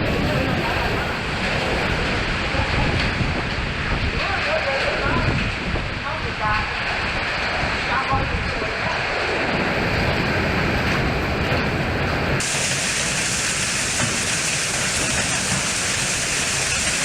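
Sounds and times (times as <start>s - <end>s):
heavy rain: 0.0s - 17.0s
storm wind: 0.0s - 17.0s.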